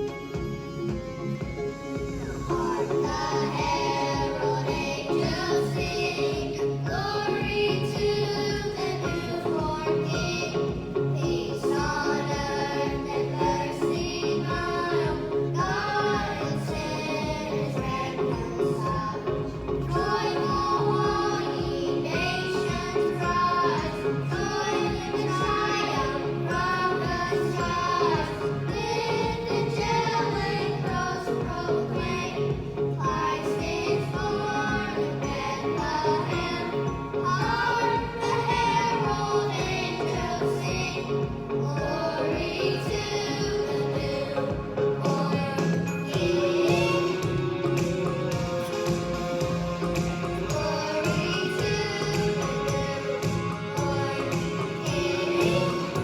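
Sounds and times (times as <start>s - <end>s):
instrumental accompaniment: 0.0s - 56.0s
children singing: 2.0s - 56.0s.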